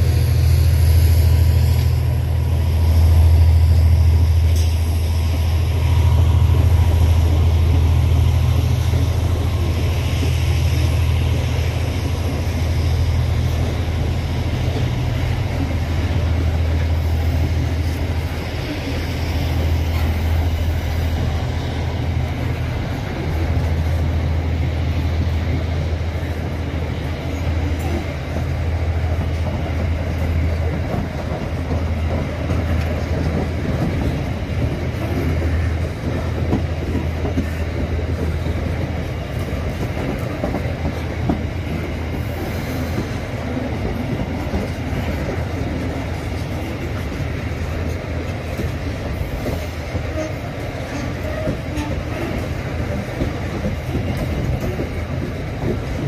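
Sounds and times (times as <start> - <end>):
constant rushing noise: 0.0 - 56.0
train rumbling past: 0.0 - 56.0.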